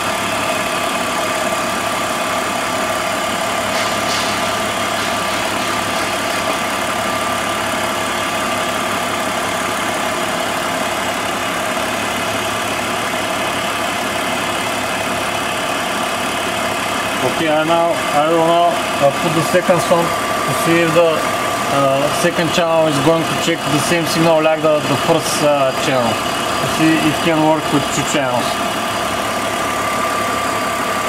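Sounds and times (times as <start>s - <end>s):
car engine idling: 0.0s - 31.0s
steady whine: 0.0s - 31.0s.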